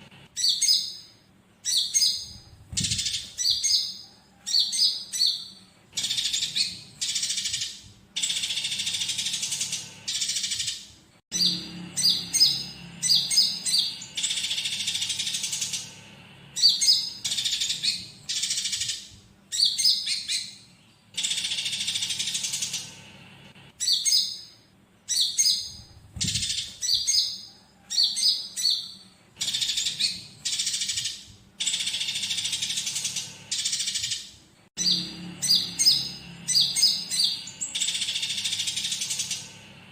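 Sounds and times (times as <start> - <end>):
sunbird singing: 0.3 - 23.0, 23.7 - 39.7.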